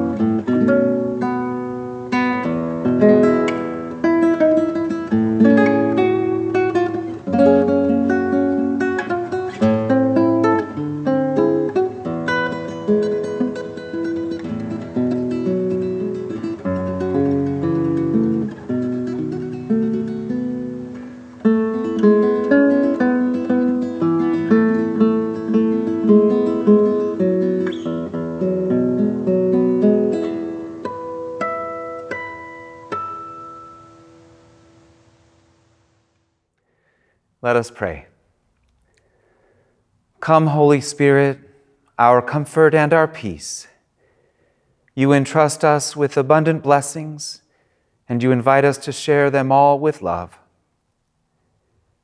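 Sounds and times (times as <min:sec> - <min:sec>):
acoustic guitar instrumental: 0:00.0 - 0:52.0.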